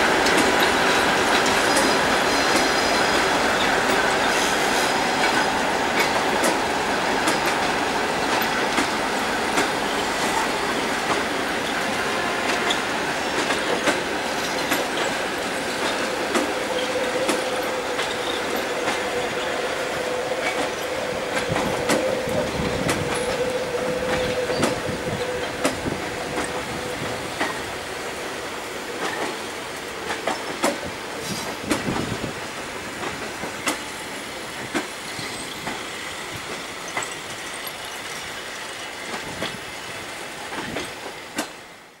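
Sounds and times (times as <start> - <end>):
train wheels clacking over rail joints: 0.0 - 42.0.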